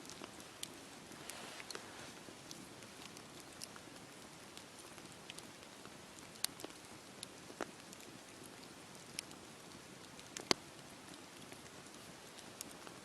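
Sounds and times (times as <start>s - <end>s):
fire crackling and popping: 0.0s - 13.0s
wood fire hissing: 0.2s - 13.0s.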